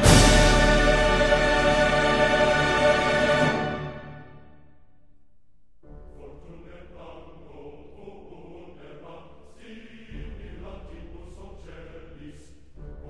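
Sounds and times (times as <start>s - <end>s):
chant-like choral voices: 0.0s - 4.4s, 6.0s - 13.0s.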